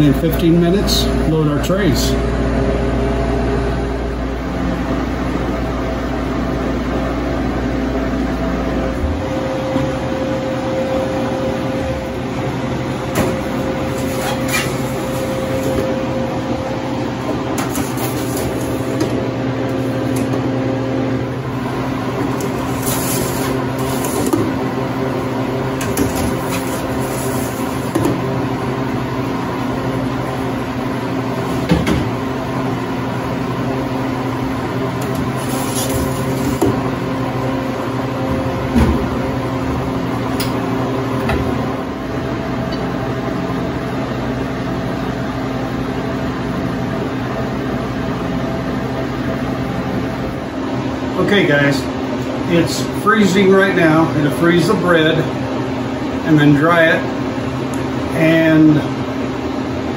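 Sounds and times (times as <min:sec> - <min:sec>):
refrigeration hum: 0:00.0 - 0:59.9.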